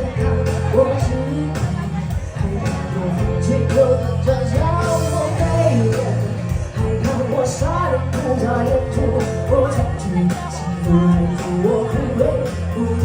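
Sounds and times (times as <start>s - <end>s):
live rock band music: 0.0s - 13.0s.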